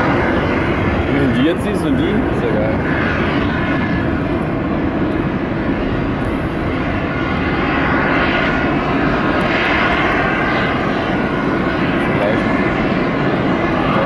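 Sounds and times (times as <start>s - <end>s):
jet engine rumble with whine: 0.0s - 14.0s.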